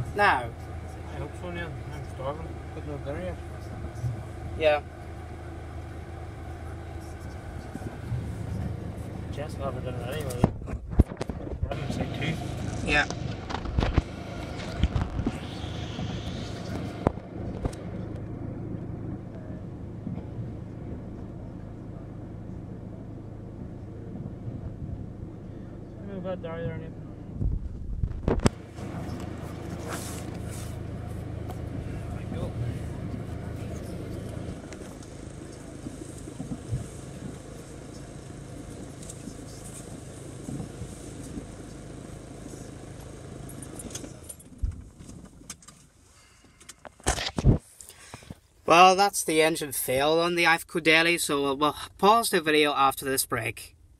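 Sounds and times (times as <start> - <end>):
diesel van engine idling: 0.0 - 53.9.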